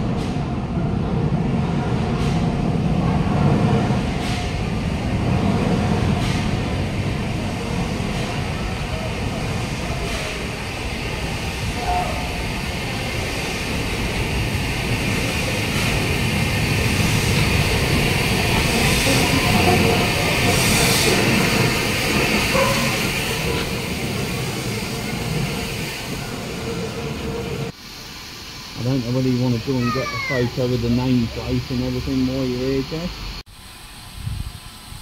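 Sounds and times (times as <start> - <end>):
steam train rumbling: 0.0 - 35.0
steam hiss: 1.9 - 35.0.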